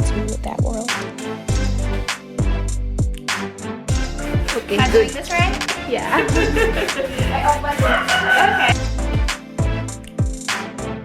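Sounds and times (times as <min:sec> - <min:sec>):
bass-heavy beat music: 0:00.0 - 0:11.0.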